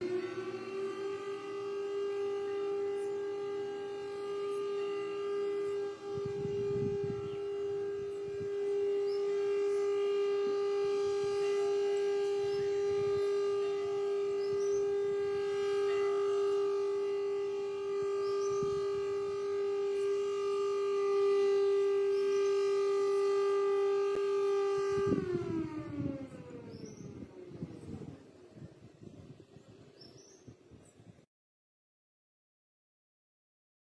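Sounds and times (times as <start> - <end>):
fire siren winding down: 0.0 - 29.3.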